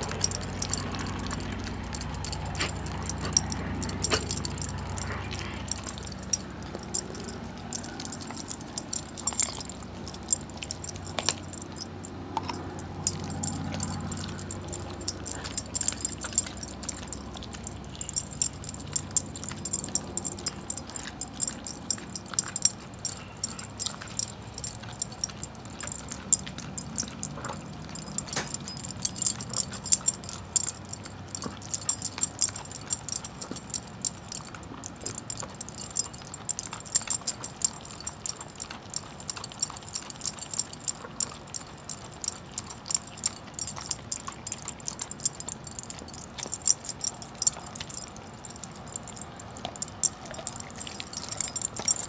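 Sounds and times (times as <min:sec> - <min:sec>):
collar tags jingling: 0:00.0 - 0:52.0
dog gnawing and crunching bone: 0:00.0 - 0:52.0.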